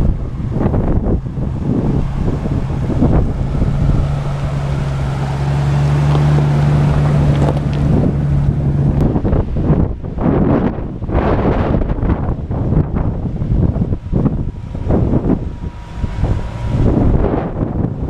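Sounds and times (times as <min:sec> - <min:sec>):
car engine running low: 0:00.0 - 0:18.0
wind buffeting microphone: 0:00.0 - 0:18.0.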